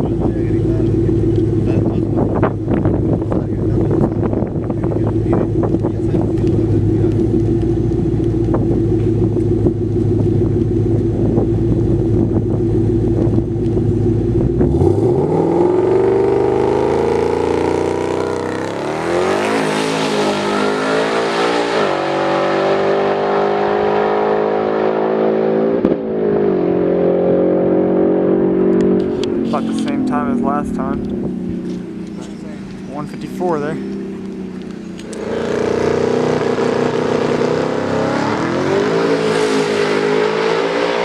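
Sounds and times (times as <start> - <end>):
drag car engine rumbling: 0.0 - 23.8, 25.6 - 41.0
car accelerating with upshifts: 0.0 - 41.0.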